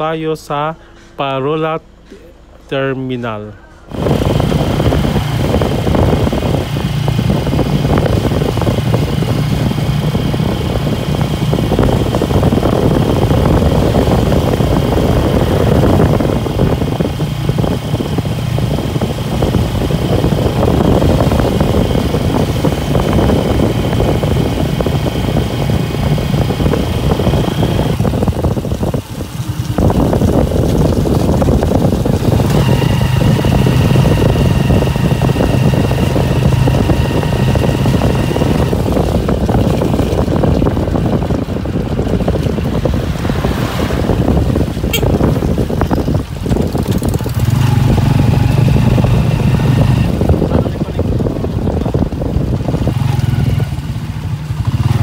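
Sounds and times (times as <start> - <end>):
road and wind noise: 0.0 - 55.0
motorcycle engine running: 3.8 - 55.0.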